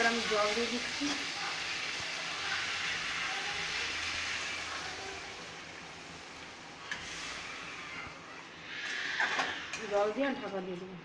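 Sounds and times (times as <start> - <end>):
meat sizzling in a pan: 0.0 - 10.3.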